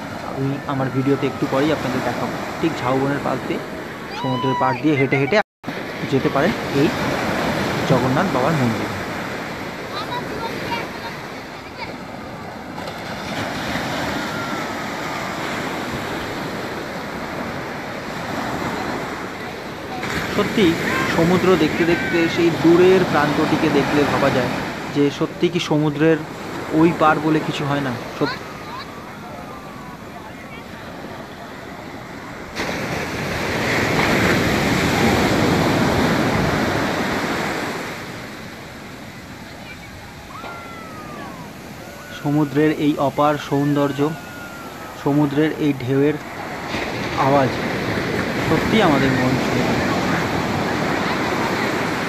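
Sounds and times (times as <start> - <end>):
waves breaking on beach: 0.0 - 52.0.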